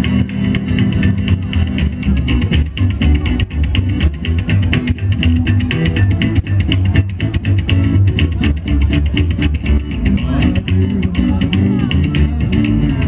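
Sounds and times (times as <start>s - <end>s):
strummed acoustic guitar: 0.0s - 13.0s
upright double bass: 0.0s - 13.0s.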